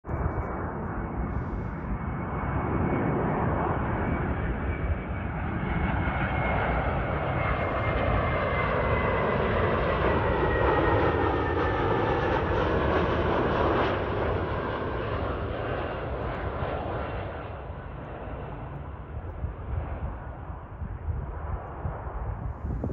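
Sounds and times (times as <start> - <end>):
jet engines passing overhead: 0.1 - 22.9.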